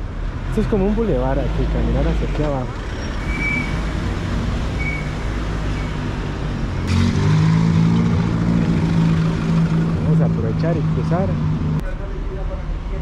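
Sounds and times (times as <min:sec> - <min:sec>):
cars going by: 0:00.0 - 0:13.0
truck engine hum: 0:00.0 - 0:13.0.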